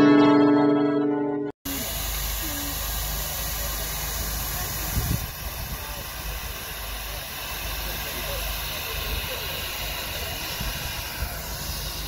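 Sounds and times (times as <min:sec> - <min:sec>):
steam hissing: 0:01.7 - 0:12.0.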